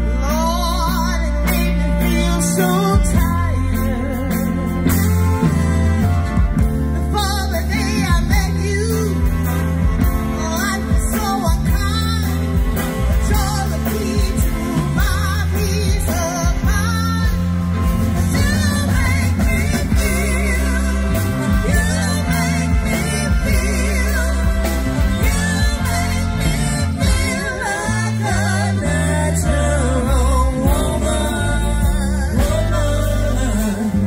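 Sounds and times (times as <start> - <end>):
woman singing with vibrato: 0.0 - 6.0, 6.9 - 34.0
live band playing: 0.0 - 34.0.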